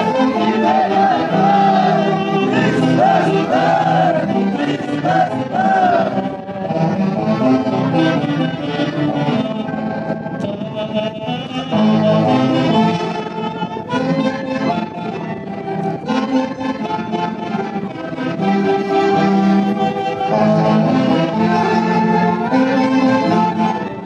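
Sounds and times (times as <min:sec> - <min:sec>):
festival orchestra with saxophones: 0:00.0 - 0:24.0.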